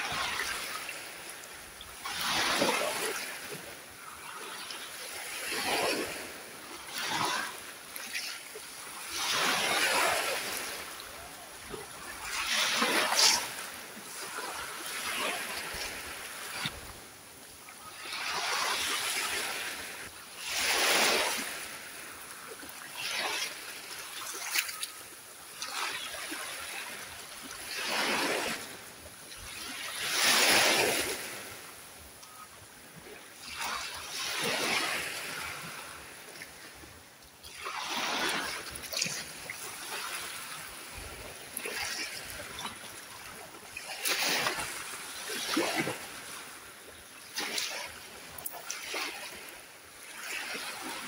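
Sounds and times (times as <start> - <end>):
waves breaking on beach: 0.0 - 51.0.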